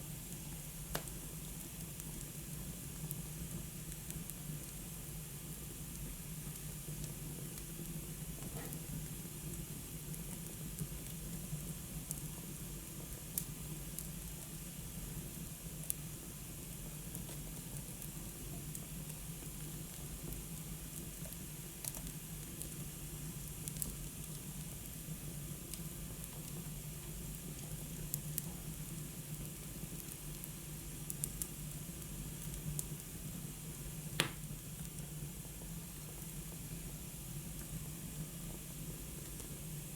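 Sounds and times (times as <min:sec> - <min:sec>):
wood fire hissing: 0:00.0 - 0:39.9
fire crackles and pops: 0:00.2 - 0:39.7.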